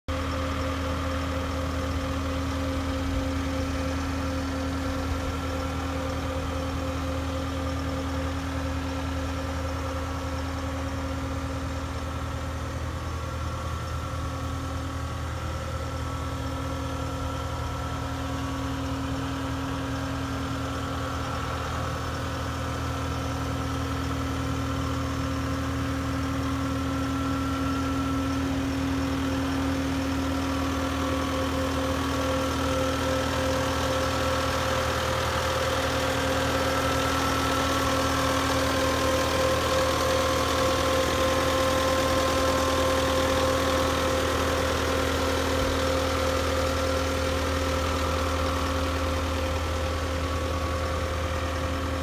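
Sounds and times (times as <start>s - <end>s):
diesel engine idling: 0.1s - 52.0s.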